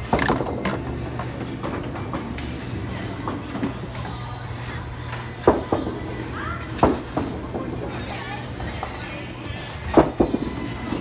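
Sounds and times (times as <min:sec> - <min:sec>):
bowling balls rolling on wooden lanes: 0:00.0 - 0:11.0.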